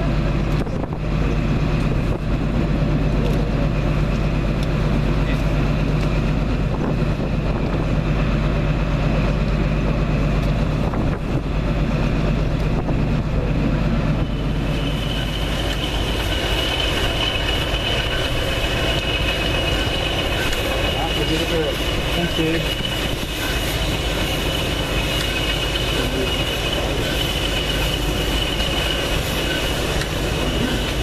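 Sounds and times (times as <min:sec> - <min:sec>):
diesel locomotive engines idling: 0:00.0 - 0:31.0
high steady whine: 0:00.0 - 0:31.0.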